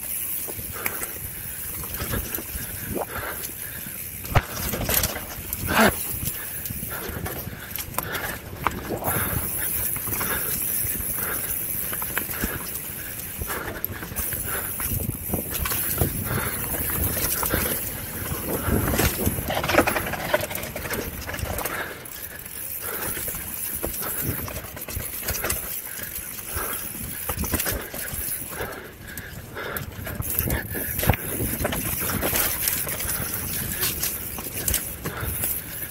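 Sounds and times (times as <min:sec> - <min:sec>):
bike rattling over bumps: 0:00.0 - 0:35.9
bike tyres rushing on dirt: 0:00.0 - 0:35.9.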